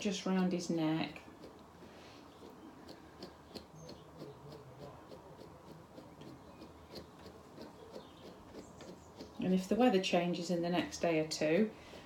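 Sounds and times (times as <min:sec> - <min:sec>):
brush stroking curly fur: 0:00.0 - 0:12.0.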